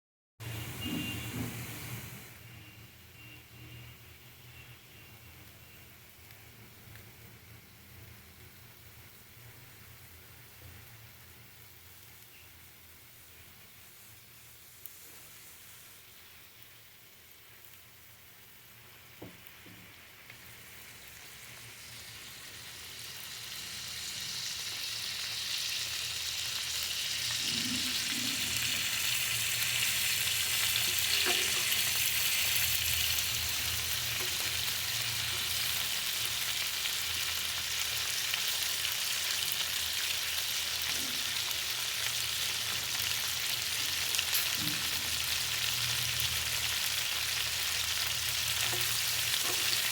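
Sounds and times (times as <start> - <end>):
food frying in hot oil: 0.4 - 49.9.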